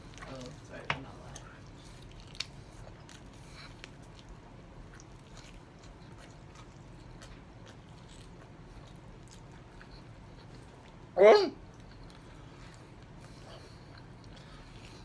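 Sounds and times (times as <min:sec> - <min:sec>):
chewing and crunching: 0:00.0 - 0:15.0
low background hum: 0:00.0 - 0:15.0.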